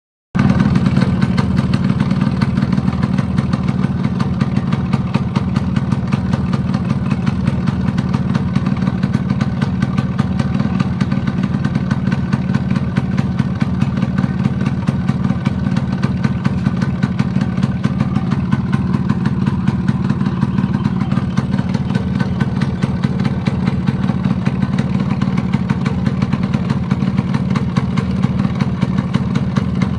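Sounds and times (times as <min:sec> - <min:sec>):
two-stroke engine idling with knock: 0:00.4 - 0:29.9.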